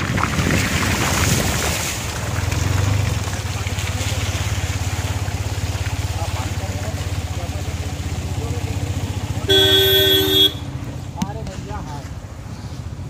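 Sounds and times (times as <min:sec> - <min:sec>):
car tyres splashing through water: 0:00.0 - 0:13.0
vehicle low rumble: 0:00.0 - 0:13.0.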